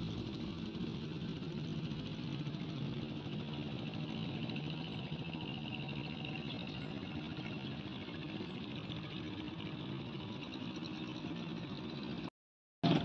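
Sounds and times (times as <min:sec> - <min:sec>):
small engine humming: 0:00.0 - 0:13.0.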